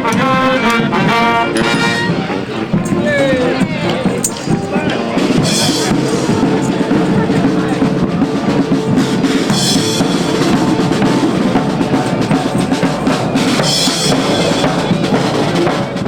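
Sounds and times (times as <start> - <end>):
bass and snare drums: 0.0 - 16.0
shrill high sounds: 1.4 - 14.6.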